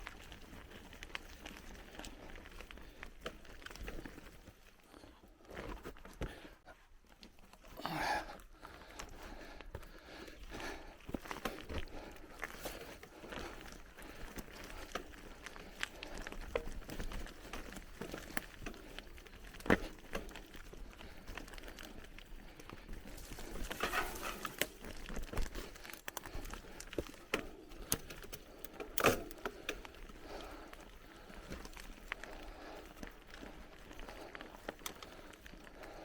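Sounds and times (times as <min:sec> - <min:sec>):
bike clicks and rattles: 0:00.0 - 0:07.8, 0:08.4 - 0:36.0
bicycle tyres crunching on dirt: 0:00.0 - 0:36.0.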